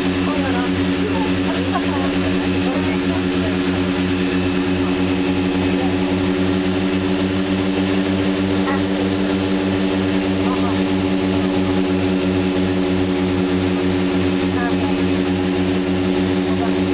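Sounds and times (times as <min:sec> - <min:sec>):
propeller aircraft engines droning: 0:00.0 - 0:16.9.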